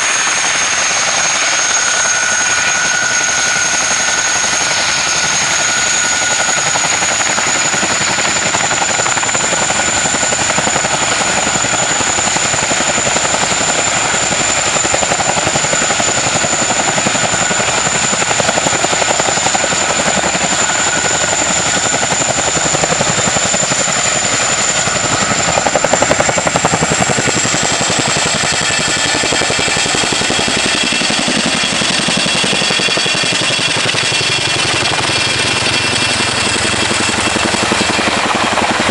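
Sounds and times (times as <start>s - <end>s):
helicopter rotor chop: 0.0s - 38.9s
high turbine whine: 0.0s - 38.9s.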